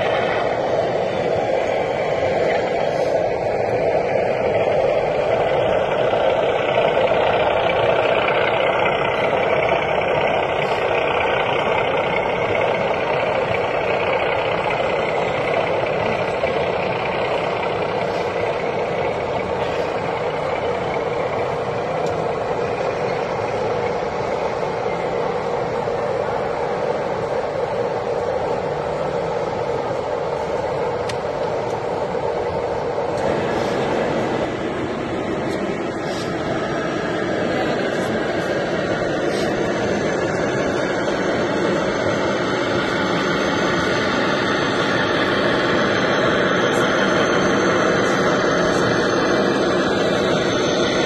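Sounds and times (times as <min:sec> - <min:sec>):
model locomotive diesel rumble: 0:00.0 - 0:51.0.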